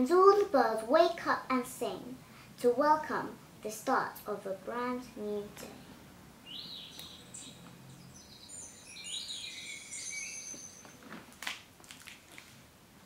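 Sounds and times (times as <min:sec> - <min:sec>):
recorded birdsong through small speaker: 0:00.0 - 0:11.0.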